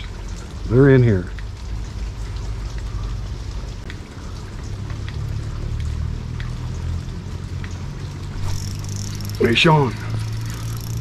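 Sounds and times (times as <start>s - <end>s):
light rain falling: 0.0s - 11.0s
raindrops ticking: 0.0s - 11.0s.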